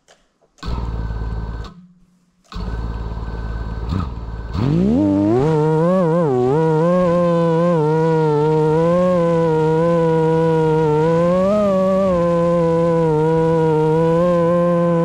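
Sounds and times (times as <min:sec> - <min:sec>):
quadcopter motors buzzing: 0:02.6 - 0:15.0
quadcopter motors whining: 0:02.6 - 0:15.0.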